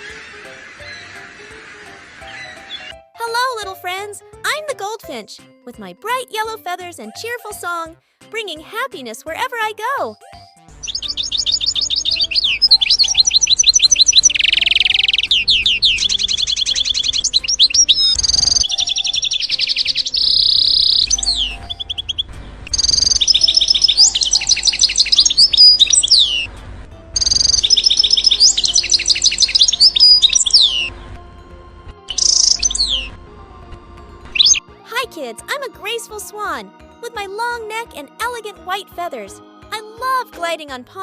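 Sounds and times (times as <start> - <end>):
goldfinch singing: 0.0 - 3.6, 10.7 - 33.4, 34.0 - 41.0.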